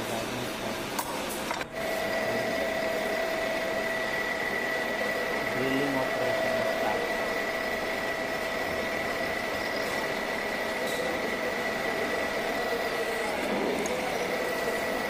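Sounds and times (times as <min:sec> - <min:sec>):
drilling machine whining: 0:01.5 - 0:15.0.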